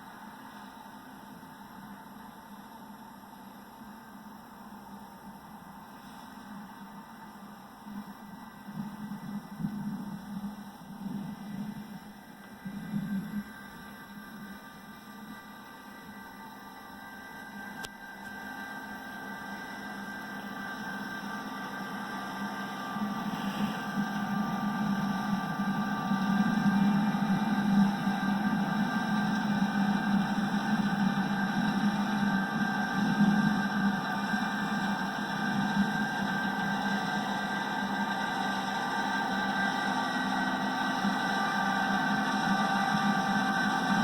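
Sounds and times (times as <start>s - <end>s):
combine harvester running: 0.0s - 44.0s
high whine: 0.0s - 44.0s.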